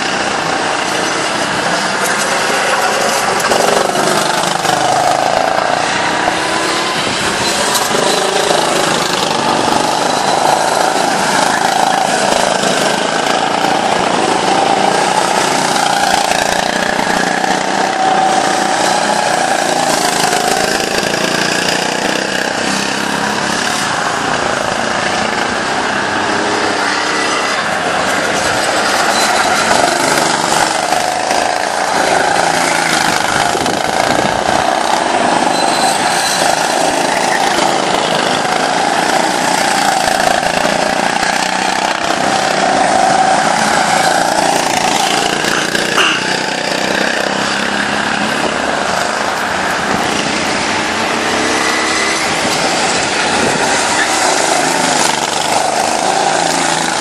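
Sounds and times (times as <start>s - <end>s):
go-kart engines: 0.0s - 57.0s.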